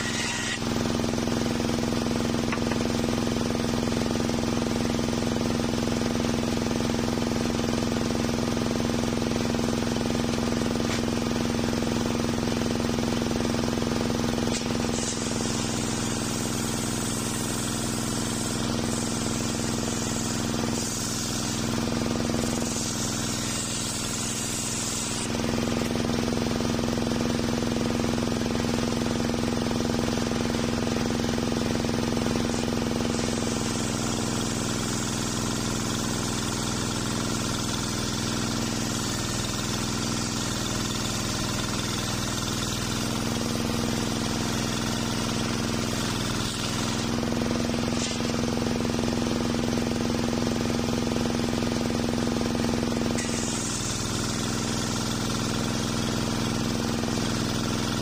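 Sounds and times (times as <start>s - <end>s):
saw blade hissing through log: 0.0s - 6.7s, 8.1s - 28.2s, 29.5s - 58.0s
sawmill engine running: 0.0s - 58.0s.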